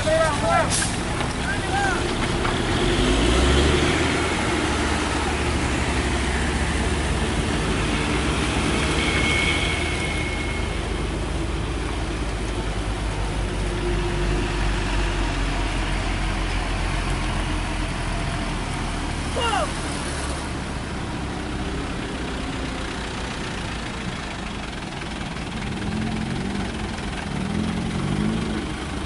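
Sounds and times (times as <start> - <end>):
diesel engine rumbling: 0.0 - 29.0
outdoor noise: 0.0 - 29.0.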